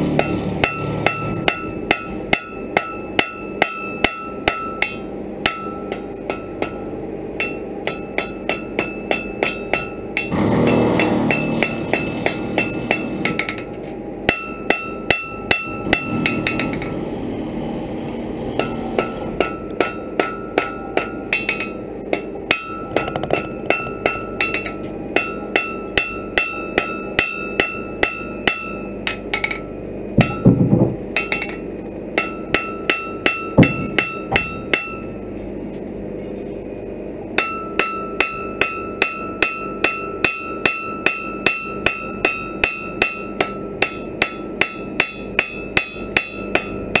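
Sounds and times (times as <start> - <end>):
hammer striking iron on anvil: 0.0 - 17.0, 18.6 - 35.5, 37.4 - 47.0.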